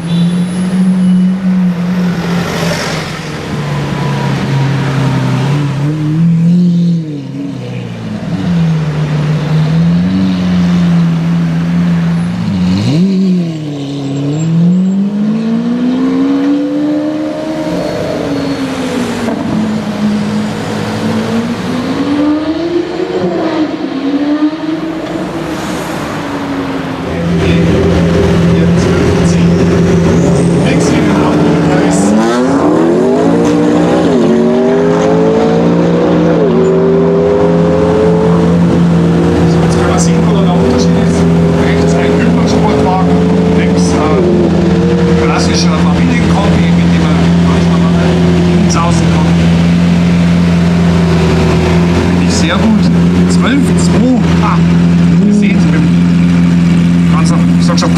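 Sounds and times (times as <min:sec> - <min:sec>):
supercar engine revving: 0:00.0 - 0:57.9.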